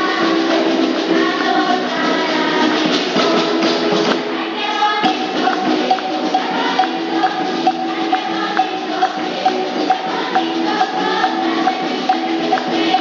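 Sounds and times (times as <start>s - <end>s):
girls' choir singing: 0.0s - 13.0s
hand percussion shaking and tapping: 0.0s - 13.0s.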